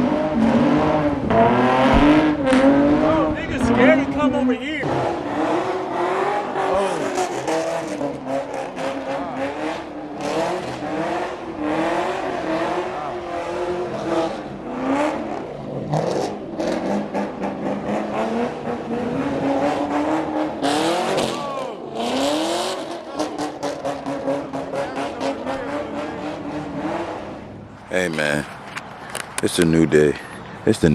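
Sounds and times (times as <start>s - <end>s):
car engine revving: 0.0s - 30.2s.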